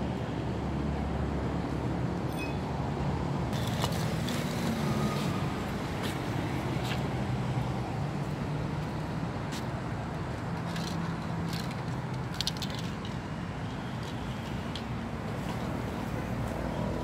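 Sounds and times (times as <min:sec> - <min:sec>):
motor traffic hum: 0:00.0 - 0:17.0.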